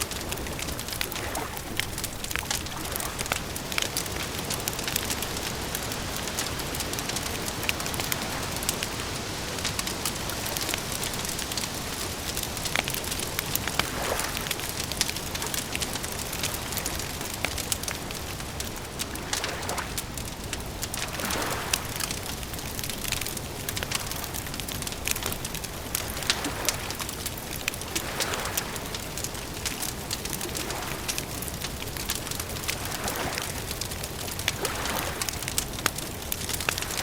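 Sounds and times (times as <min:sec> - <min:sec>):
campfire crackling and popping: 0:00.0 - 0:37.0
steady fire hiss: 0:00.0 - 0:37.0.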